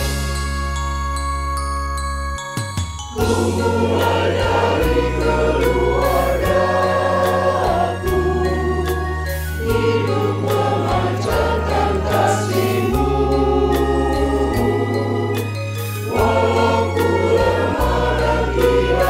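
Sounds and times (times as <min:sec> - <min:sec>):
instrumental bass accompaniment: 0:00.0 - 0:19.0
mixed choir singing: 0:03.2 - 0:19.0.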